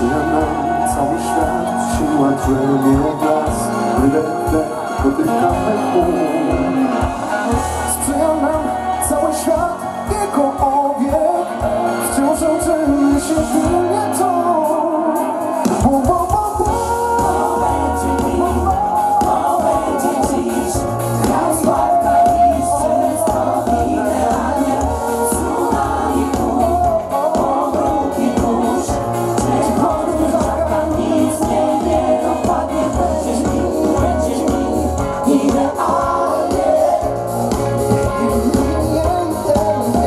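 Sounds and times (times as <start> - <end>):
voices singing together: 0.0 - 10.2, 16.6 - 40.0
drums: 0.0 - 40.0.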